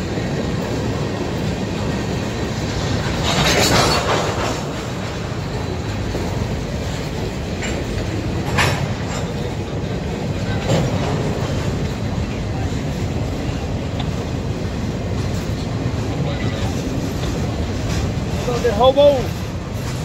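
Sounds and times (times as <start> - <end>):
freight train wheels rumbling on rail: 0.0 - 20.0.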